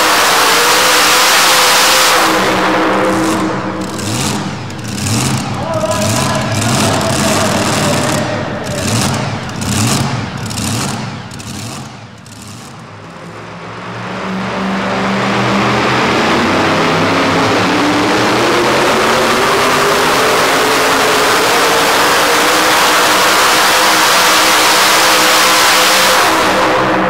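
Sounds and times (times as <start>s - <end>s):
engine revving: 0.0s - 27.0s
pulling truck engine at full throttle: 0.0s - 27.0s.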